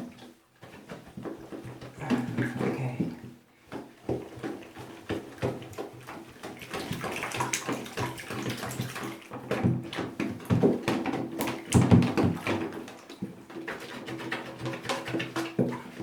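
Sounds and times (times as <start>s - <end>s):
water sloshing and splashing: 0.7s - 16.0s.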